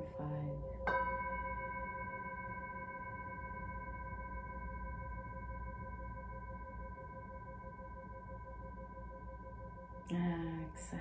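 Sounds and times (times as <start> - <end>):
singing bowl ringing: 0.0 - 11.0.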